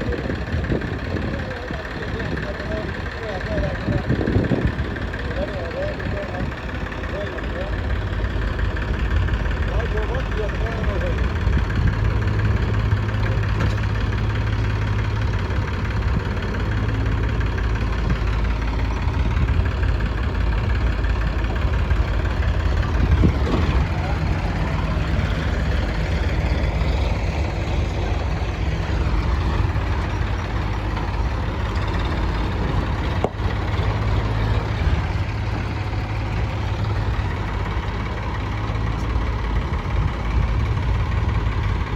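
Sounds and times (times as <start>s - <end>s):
diesel engines running: 0.0s - 41.9s.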